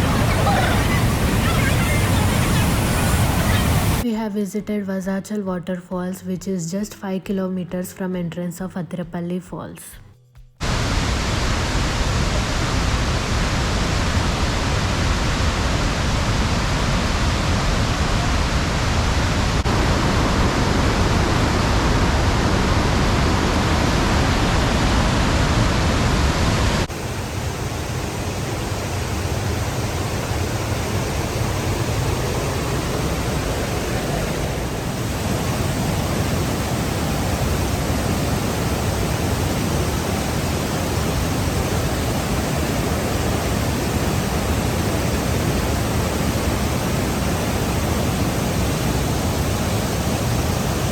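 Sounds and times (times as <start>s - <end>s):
waterfall rushing: 0.0s - 4.0s, 10.6s - 50.9s.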